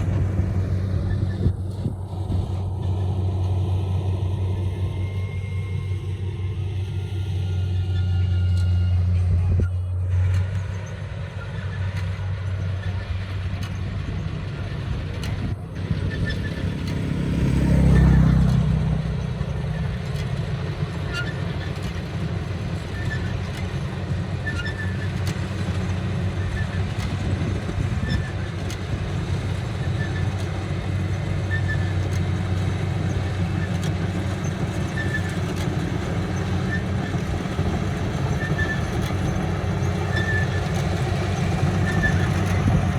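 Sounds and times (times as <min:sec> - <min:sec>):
combine harvester engine humming: 0:00.0 - 0:42.9
engine passing close: 0:00.0 - 0:42.9.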